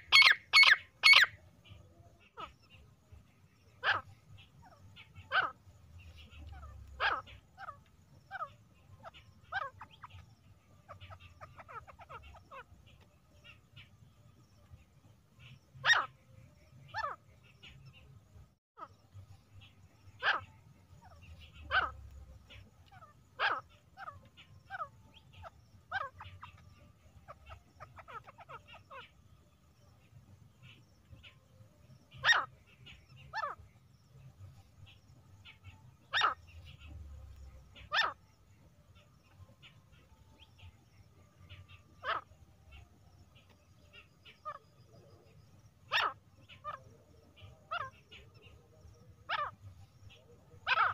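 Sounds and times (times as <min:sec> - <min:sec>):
francolin calling: 0:00.0 - 0:18.1, 0:18.8 - 0:50.9.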